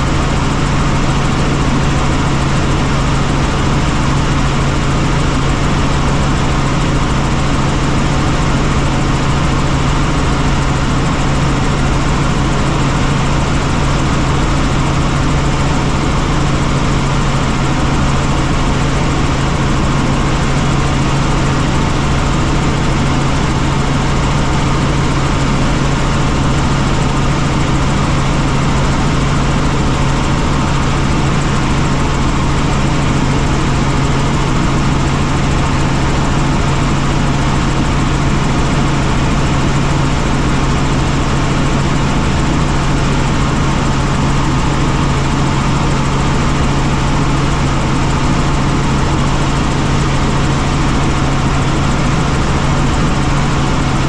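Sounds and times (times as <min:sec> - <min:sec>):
helicopter turbine and rotor drone: 0:00.0 - 0:54.0.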